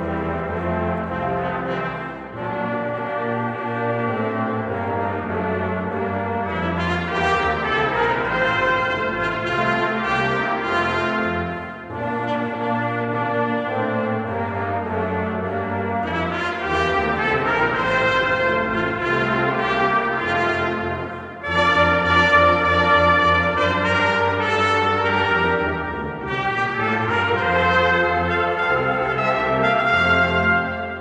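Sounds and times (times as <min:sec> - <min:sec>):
brass choir playing chords: 0:00.0 - 0:31.0.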